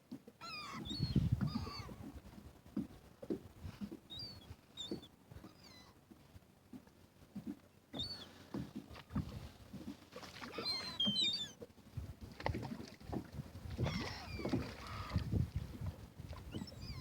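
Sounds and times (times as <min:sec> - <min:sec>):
water sloshing against a boat: 0:00.0 - 0:17.0.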